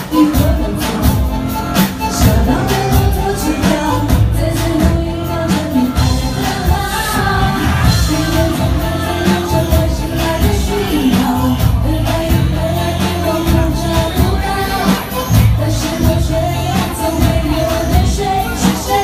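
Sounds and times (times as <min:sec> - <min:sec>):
band playing: 0:00.0 - 0:19.0
person singing: 0:00.0 - 0:19.0.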